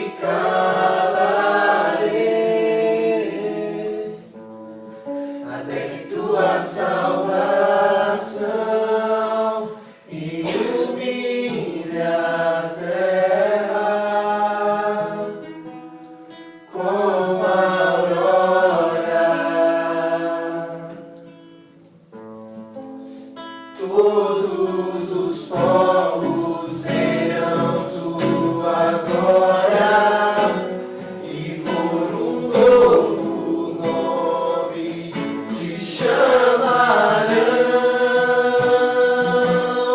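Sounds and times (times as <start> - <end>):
group singing worship song: 0.0 - 4.5, 5.2 - 15.8, 16.7 - 21.5, 23.8 - 39.9
acoustic guitar: 0.0 - 39.9.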